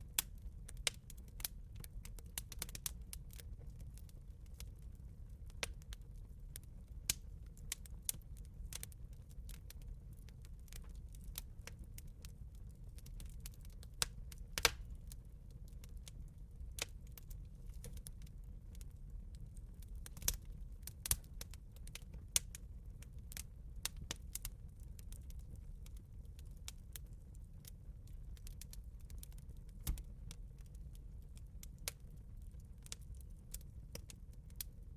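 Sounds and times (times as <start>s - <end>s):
low steady fire rumble: 0.0s - 34.9s
bonfire pops and snaps: 0.2s - 4.8s, 5.5s - 19.0s, 19.6s - 34.7s.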